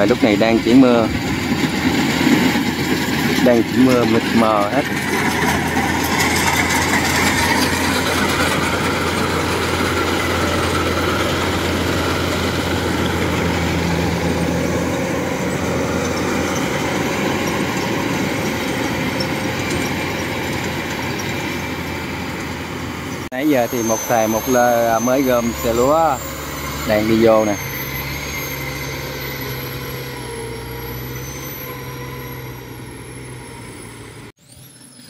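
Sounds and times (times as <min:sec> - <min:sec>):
combine harvester droning: 0:00.0 - 0:35.0.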